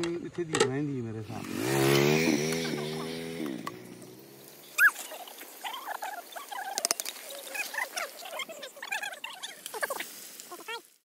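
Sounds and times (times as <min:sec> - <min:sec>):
small animals chirping: 0:01.3 - 0:11.0.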